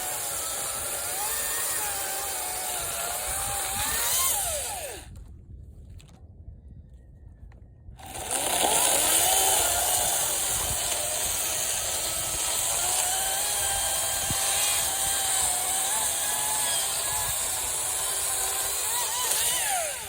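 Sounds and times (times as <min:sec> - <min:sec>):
electric chainsaw whining: 0:00.0 - 0:05.1, 0:08.0 - 0:20.0.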